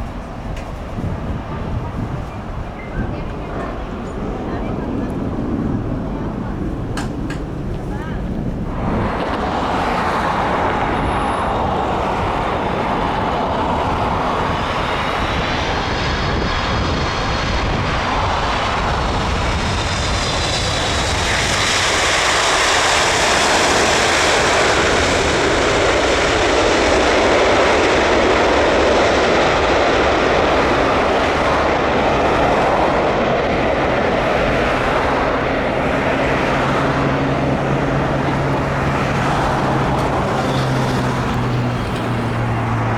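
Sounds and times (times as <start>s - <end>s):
jet airliner engines: 0.0s - 42.9s
high engine whine: 7.0s - 42.9s.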